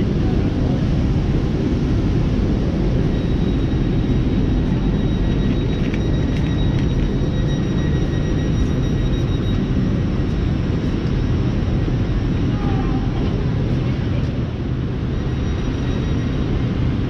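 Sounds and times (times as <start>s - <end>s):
faint high whine: 0.0s - 17.0s
trains rumbling and humming: 0.0s - 17.0s.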